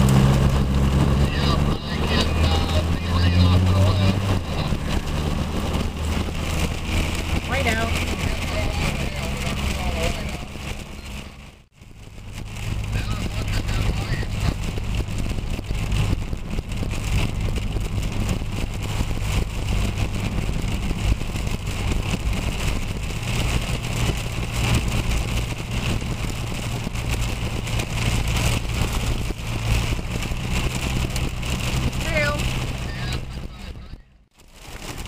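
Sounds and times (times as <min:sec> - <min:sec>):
hail and rain on car roof: 0:00.0 - 0:35.0.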